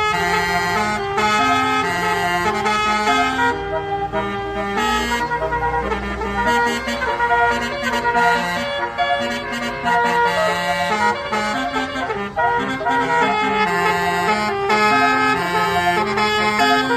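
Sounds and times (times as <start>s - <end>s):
musical bus horn melody: 0.0s - 16.9s.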